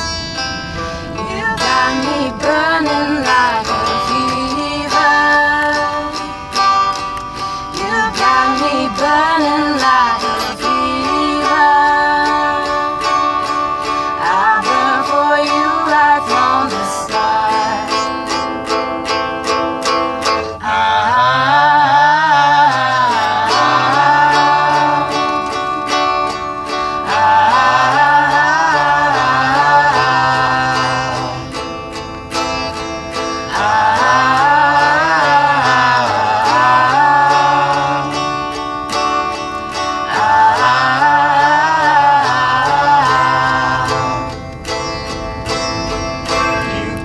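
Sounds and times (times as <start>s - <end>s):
person singing: 0.0s - 47.0s
plucked strings: 0.0s - 47.0s.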